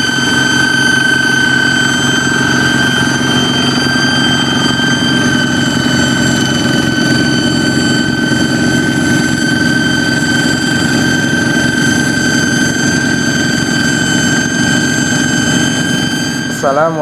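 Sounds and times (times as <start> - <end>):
high-pitched whistle: 0.0 - 17.0
tractor engine running: 0.0 - 17.0.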